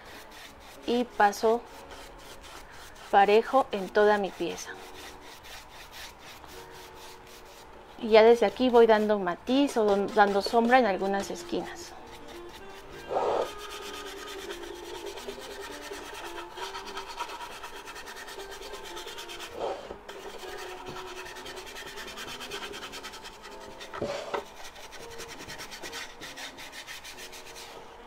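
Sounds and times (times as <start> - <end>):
paintbrush scratching over wood: 0.0 - 27.9.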